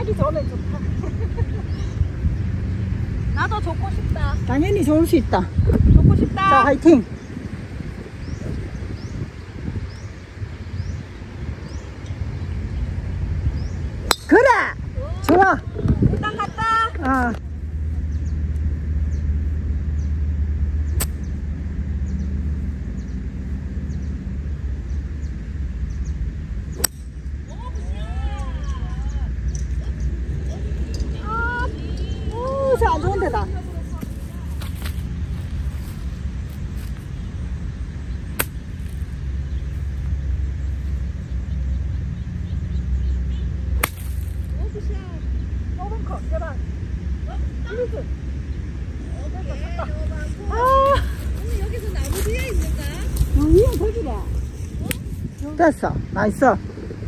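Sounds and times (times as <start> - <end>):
wind buffeting microphone: 0.0 - 20.2, 20.8 - 43.8, 44.4 - 57.0
low outdoor rumble: 0.0 - 57.0.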